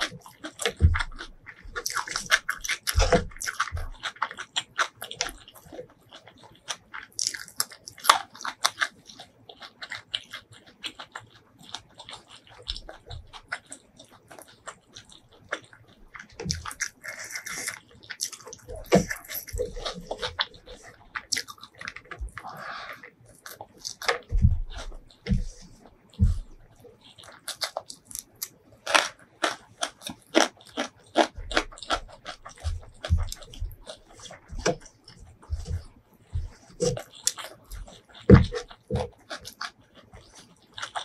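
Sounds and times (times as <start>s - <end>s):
person chewing and crunching food: 0.0s - 41.0s
wet mouth clicks: 0.0s - 41.0s.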